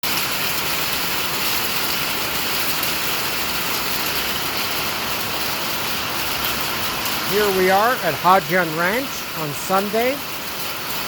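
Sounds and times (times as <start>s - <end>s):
heavy hail falling: 0.0s - 11.0s.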